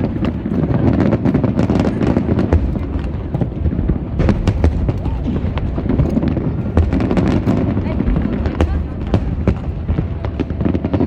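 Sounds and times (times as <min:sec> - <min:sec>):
fireworks cracking and popping: 0:00.0 - 0:11.0
low rumble of firework bursts: 0:00.0 - 0:11.0.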